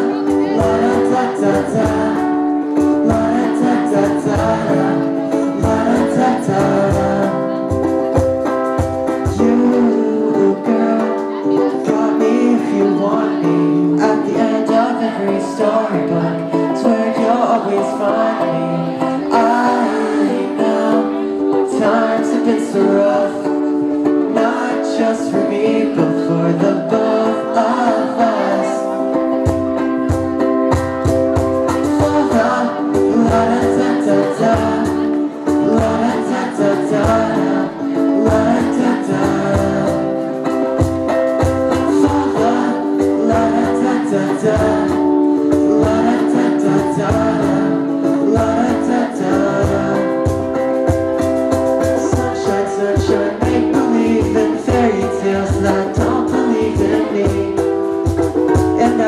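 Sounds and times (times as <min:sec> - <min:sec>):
keyboard chords: 0:00.0 - 0:59.0
ukulele strumming: 0:00.0 - 0:59.0.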